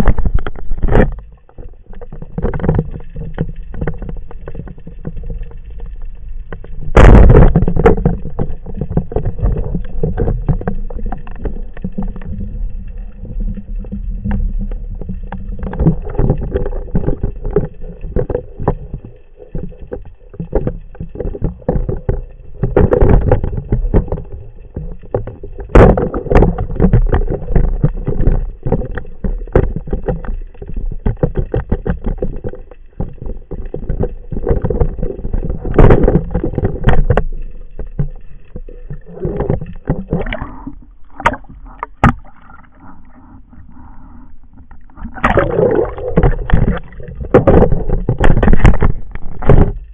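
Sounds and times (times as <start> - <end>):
small clicks and knocks: 0.0 - 42.8, 46.0 - 49.9
underwater rush of water: 0.0 - 49.9.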